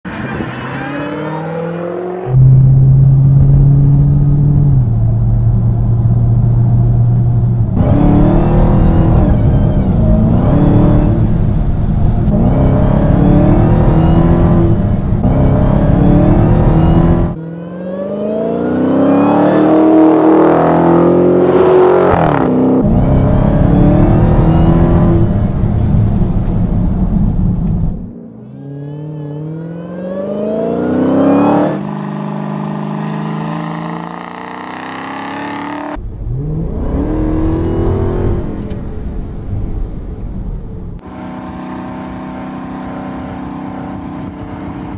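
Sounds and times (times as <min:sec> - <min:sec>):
car engine revving: 0:00.1 - 0:44.9
supercharger whine: 0:00.1 - 0:44.9.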